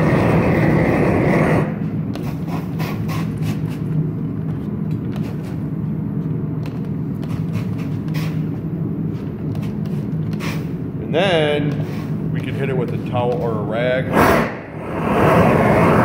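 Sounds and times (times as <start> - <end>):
low hum: 0.0 - 16.0
torch flame roaring: 0.0 - 16.0.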